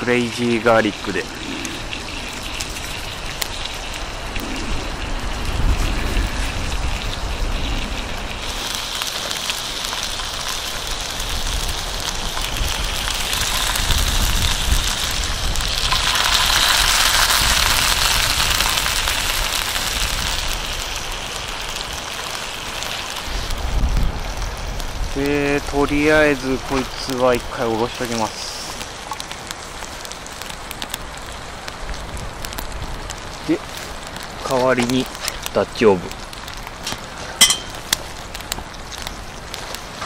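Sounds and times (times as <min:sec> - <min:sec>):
meat sizzling in a skillet: 0:00.0 - 0:40.0
wind rumbling on microphone: 0:00.9 - 0:40.0.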